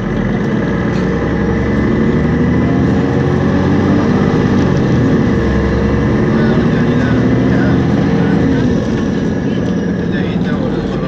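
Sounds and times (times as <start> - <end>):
bus engine drone: 0.0 - 11.0
low rumble: 0.0 - 11.0.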